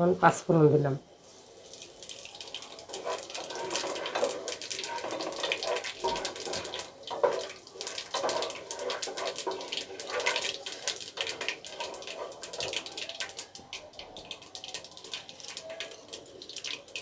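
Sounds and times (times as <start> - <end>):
seeds sizzling in hot oil: 1.1 - 17.0
wooden spatula stirring: 1.2 - 17.0.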